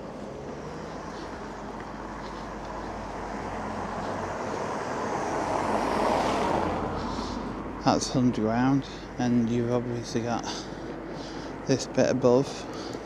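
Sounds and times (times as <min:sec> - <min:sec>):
passing vehicle rushing: 0:00.0 - 0:11.9.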